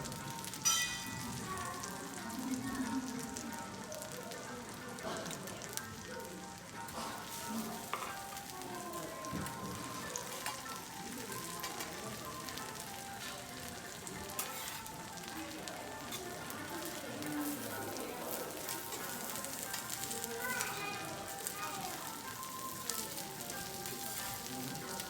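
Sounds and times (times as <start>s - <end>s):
food sizzling on a griddle: 0.0s - 25.0s.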